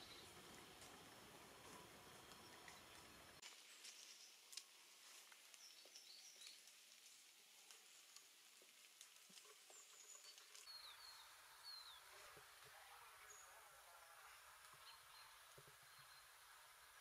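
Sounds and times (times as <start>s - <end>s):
small birds chirping: 0.0s - 6.8s, 9.4s - 17.0s.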